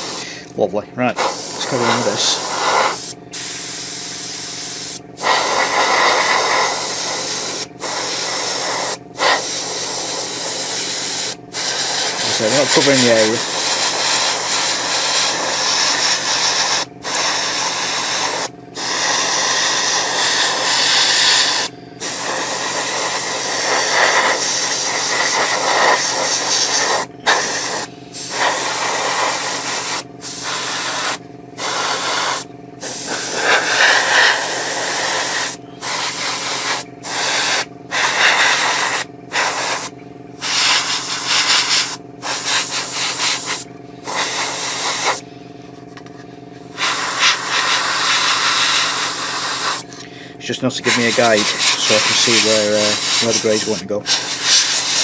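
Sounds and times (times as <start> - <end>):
airbrush spraying hiss: 0.0 - 0.2, 1.2 - 45.2, 46.7 - 49.9, 50.8 - 55.0.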